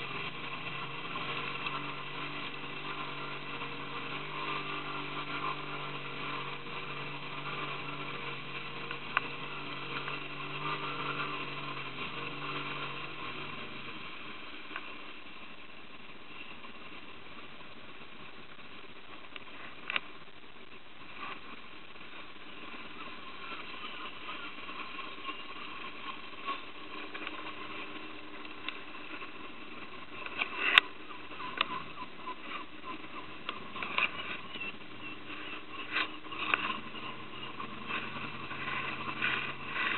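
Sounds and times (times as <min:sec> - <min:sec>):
boat motor humming: 0:00.0 - 0:39.9.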